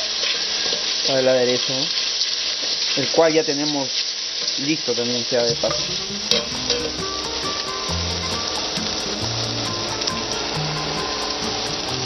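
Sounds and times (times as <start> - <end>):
garlic sizzling in hot oil: 0.0 - 12.0.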